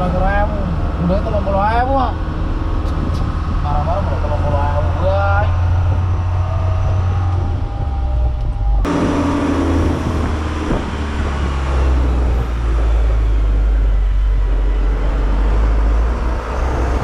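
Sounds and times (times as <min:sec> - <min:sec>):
heavy engine rumbling: 0:00.0 - 0:17.0.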